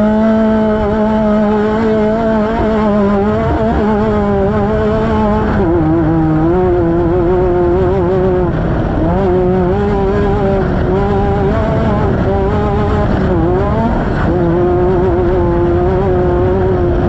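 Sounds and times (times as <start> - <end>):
engine running hard: 0.0 - 17.0
wind rushing: 2.2 - 17.0.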